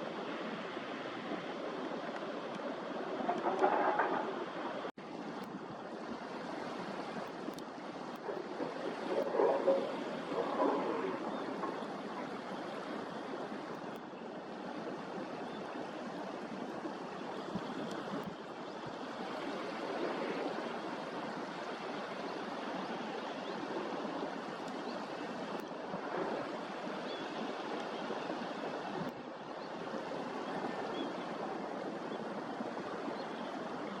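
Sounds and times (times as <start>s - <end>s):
sea waves washing on shore: 0.0s - 34.0s.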